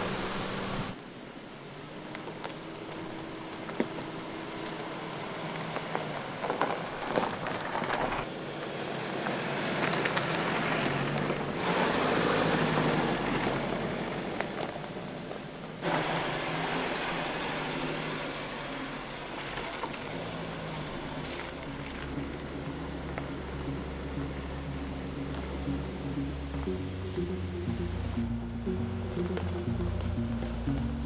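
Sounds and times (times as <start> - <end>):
off-road vehicle engine at low speed: 0.0 - 31.0
tyre and suspension noise: 0.0 - 31.0.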